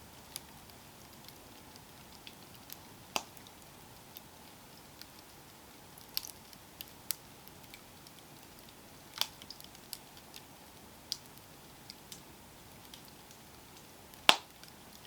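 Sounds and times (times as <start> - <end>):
campfire crackling: 0.0 - 15.0
faint steady hiss: 0.0 - 15.0.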